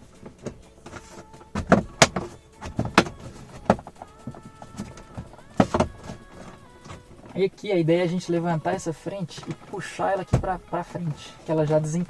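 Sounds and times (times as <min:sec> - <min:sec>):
plastic scraping and creaking: 0:00.0 - 0:12.0.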